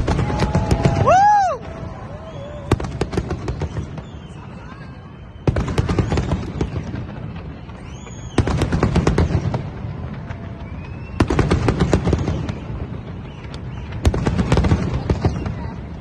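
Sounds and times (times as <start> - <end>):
fireworks crackling bangs: 0.0 - 16.0.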